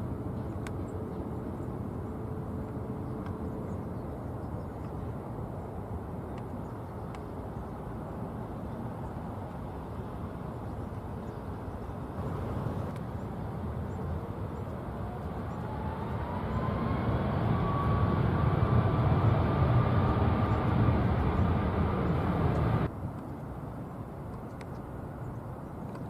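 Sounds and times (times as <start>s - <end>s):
jet engine whine: 0.0s - 22.9s
jet engine rumble: 0.0s - 23.0s.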